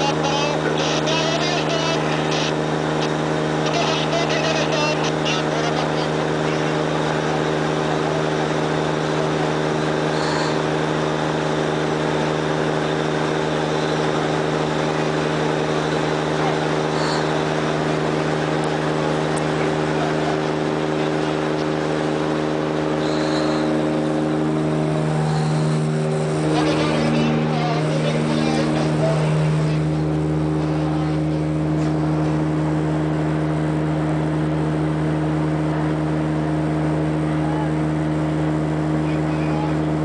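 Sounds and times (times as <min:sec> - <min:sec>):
boat diesel engine droning: 0:00.0 - 0:40.0.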